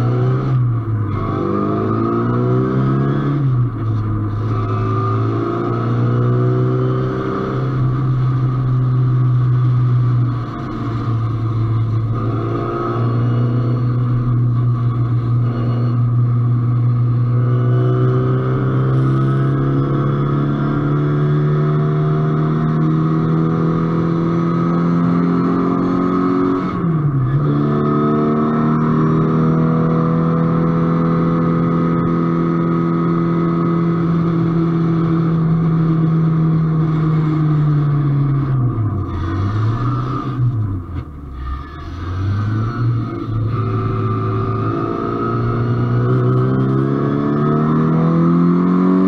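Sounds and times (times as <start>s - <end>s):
race car engine at high load: 0.0s - 49.0s.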